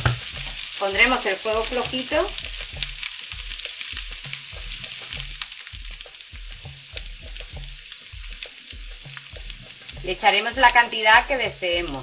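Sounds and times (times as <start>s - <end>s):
food sizzling in frying pan: 0.0s - 12.0s
low repeating beat: 1.6s - 12.0s.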